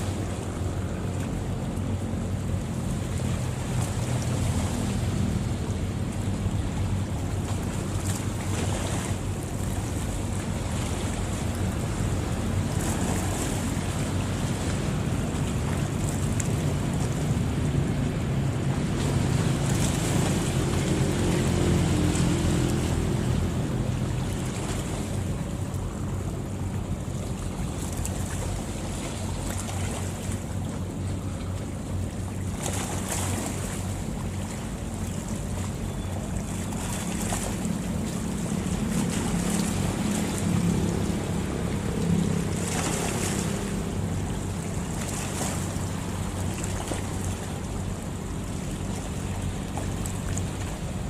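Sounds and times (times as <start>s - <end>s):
boat engine droning: 0.0s - 51.0s
rushing water: 0.0s - 51.0s
wind: 0.0s - 51.0s.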